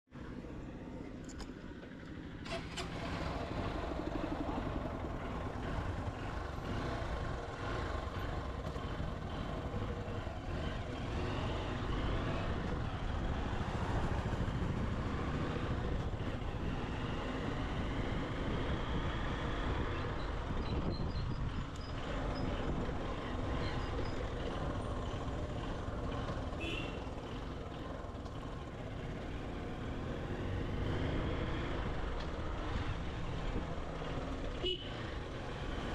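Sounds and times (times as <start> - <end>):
passing traffic: 0.1 - 35.9
road and wind noise: 0.1 - 35.9
motorcycle engine running: 3.0 - 35.9.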